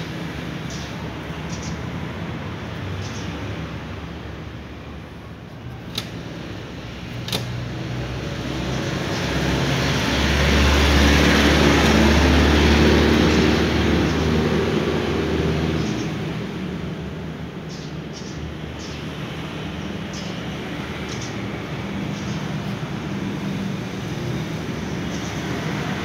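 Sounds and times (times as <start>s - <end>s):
motor vehicle passing by: 0.0s - 17.5s, 18.6s - 26.0s.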